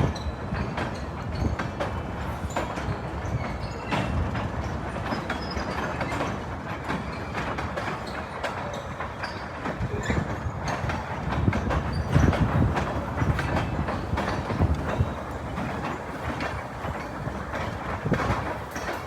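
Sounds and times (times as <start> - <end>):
freight train rolling past: 0.0 - 19.0
wheels clicking over rail joints: 0.0 - 19.0.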